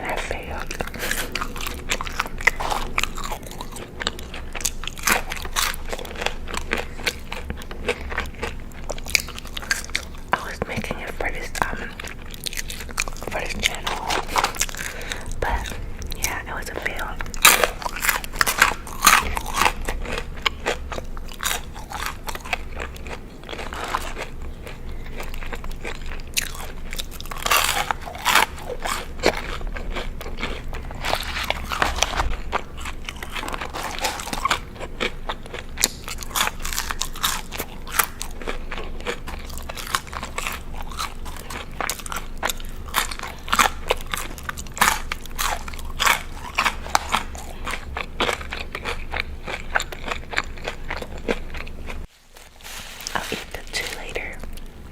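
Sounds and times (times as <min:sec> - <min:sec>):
crunching and chewing chicken wings: 0:00.0 - 0:54.8.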